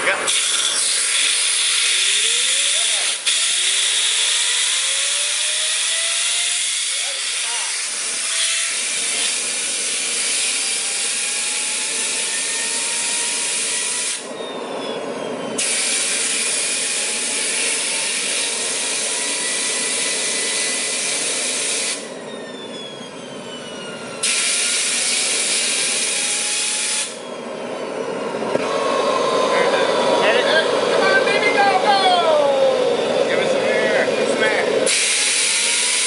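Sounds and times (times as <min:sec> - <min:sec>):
jet engine rushing hiss: 0:00.0 - 0:36.0
turbine whine: 0:00.0 - 0:36.0.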